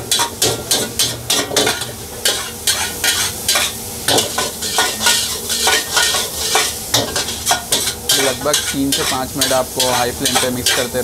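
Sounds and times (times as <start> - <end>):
noodles sizzling: 0.0 - 11.0
spatula scraping steel wok: 0.1 - 11.0.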